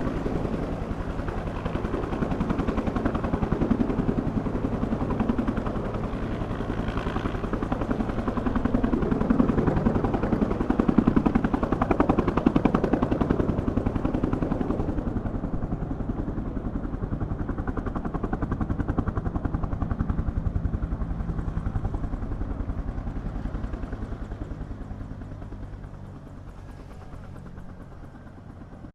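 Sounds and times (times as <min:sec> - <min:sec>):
helicopter rotors chopping: 0:00.0 - 0:28.9.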